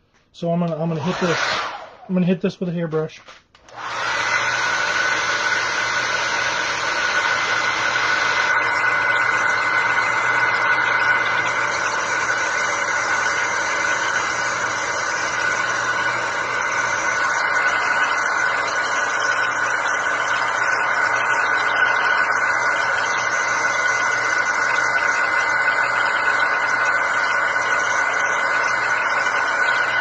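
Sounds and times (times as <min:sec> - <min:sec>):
hair dryer running: 0:00.6 - 0:02.3, 0:03.6 - 0:30.0.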